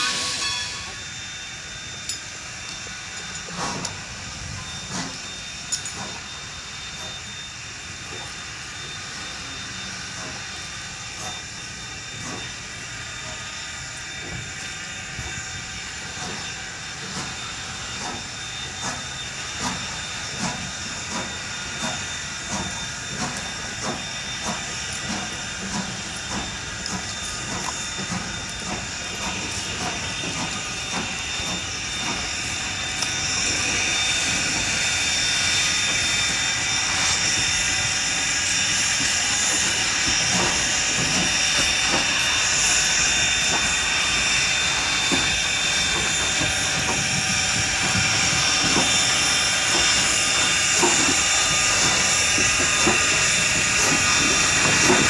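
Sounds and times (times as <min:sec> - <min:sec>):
hiss of steam: 0:00.0 - 0:55.0
steam locomotive chugging: 0:00.0 - 0:55.0.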